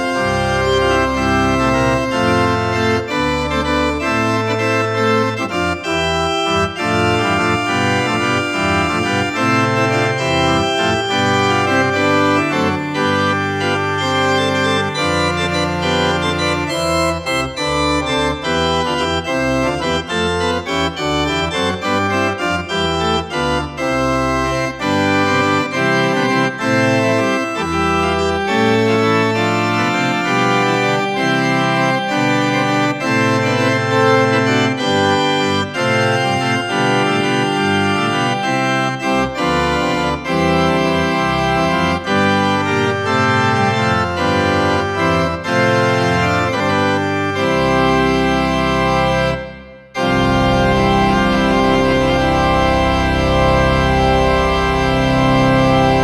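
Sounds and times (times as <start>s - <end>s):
slow organ music: 0.0s - 56.0s.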